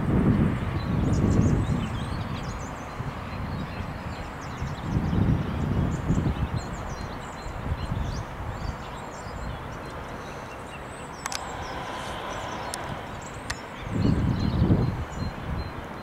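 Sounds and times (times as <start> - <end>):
wind buffeting microphone: 0.0 - 16.0
small birds chirping: 0.8 - 16.0.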